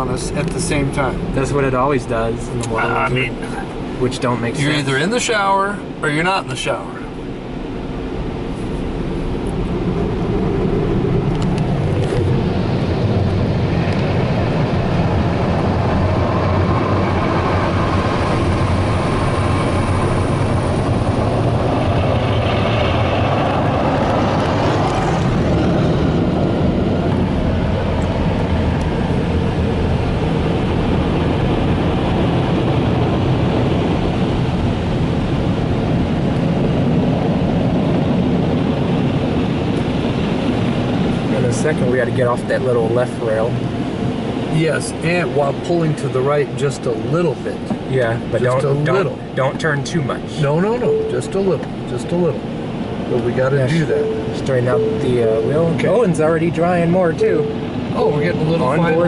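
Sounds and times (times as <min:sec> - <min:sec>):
car wash blowers roaring: 0:00.0 - 0:59.0.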